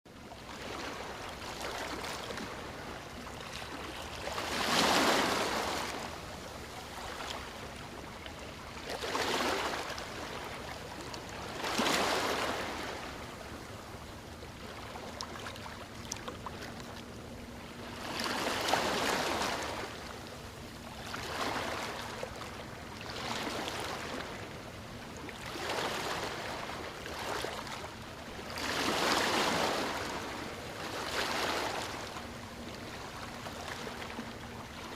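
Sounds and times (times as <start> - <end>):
ocean waves breaking on beach: 0.4 - 13.6, 17.8 - 20.1, 21.0 - 24.6, 25.3 - 34.9.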